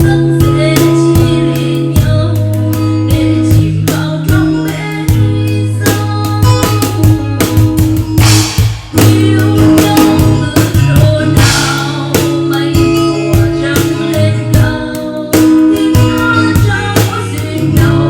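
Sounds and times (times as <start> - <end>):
person singing: 0.0 - 7.6, 8.9 - 18.0
drum kit: 0.0 - 18.0
guitar: 0.0 - 18.0.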